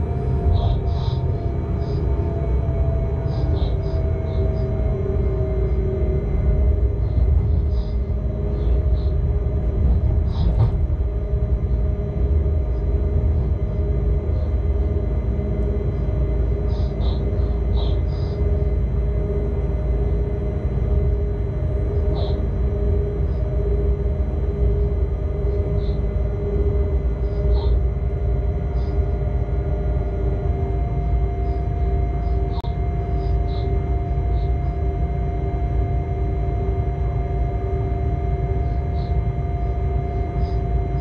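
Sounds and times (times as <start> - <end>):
locomotive running gear rumble: 0.0 - 35.0
drive whine: 0.0 - 41.0
higher whine: 0.0 - 41.0.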